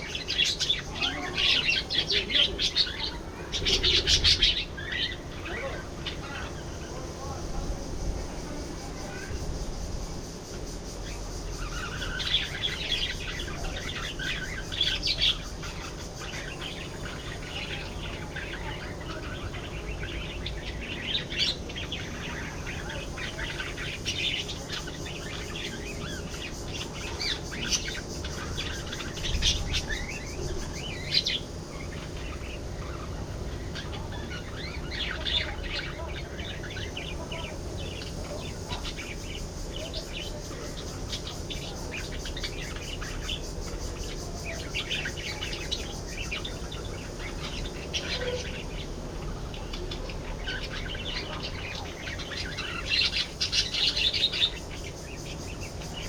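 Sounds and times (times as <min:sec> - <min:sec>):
budgerigars chirping: 0:00.0 - 0:56.0.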